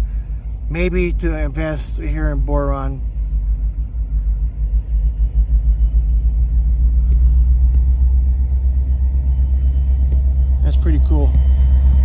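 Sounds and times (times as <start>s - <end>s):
train passing rumble: 0.0s - 12.0s.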